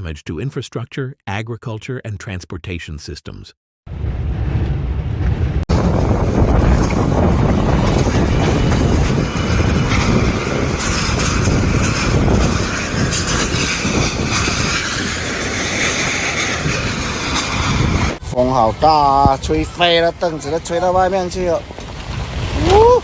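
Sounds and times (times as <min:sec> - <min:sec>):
strong wind buffeting microphone: 0:03.9 - 0:23.0.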